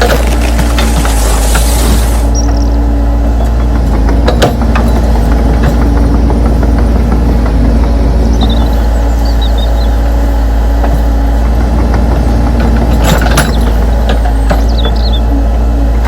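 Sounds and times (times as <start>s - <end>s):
heavy engine idling: 0.0s - 16.0s.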